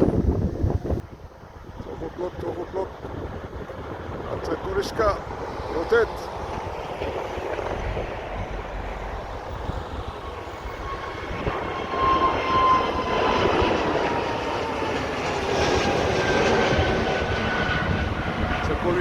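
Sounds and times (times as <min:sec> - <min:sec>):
jet engines at takeoff thrust: 0:00.0 - 0:19.0.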